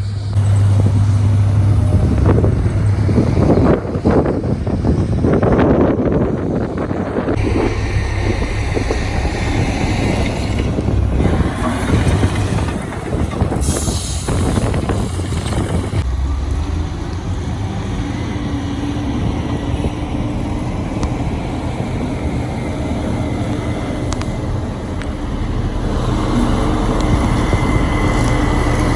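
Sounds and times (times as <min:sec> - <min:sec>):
diesel machinery engine rumble: 0:00.0 - 0:28.9.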